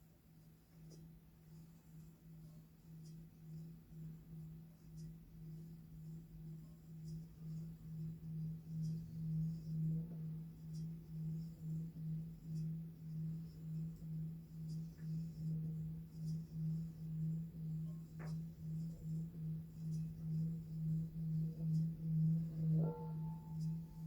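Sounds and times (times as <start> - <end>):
singing bowl low pulsing hum: 0.0 - 24.0.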